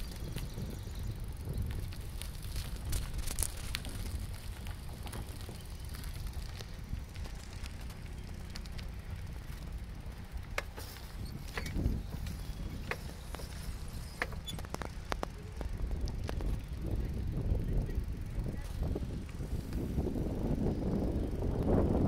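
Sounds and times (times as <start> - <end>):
bicycle rolling on asphalt: 0.0 - 22.0.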